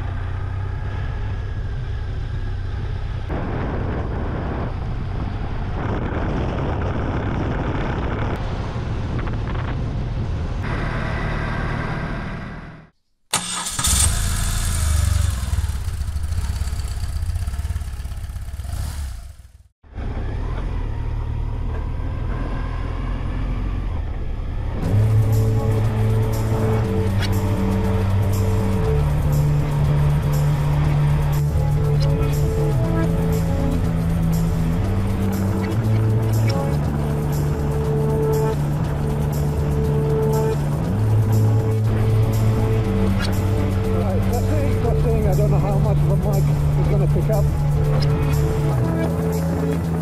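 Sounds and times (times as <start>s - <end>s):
motorcycle engine running: 0.0s - 3.9s, 13.6s - 50.0s.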